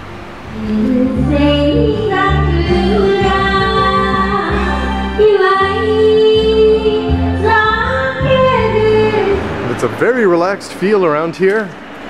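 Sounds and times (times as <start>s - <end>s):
backing music with bass line: 0.0s - 10.0s.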